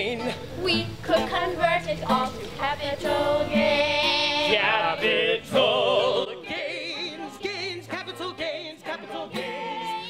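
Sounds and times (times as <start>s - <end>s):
woman singing with vibrato: 0.6s - 10.0s.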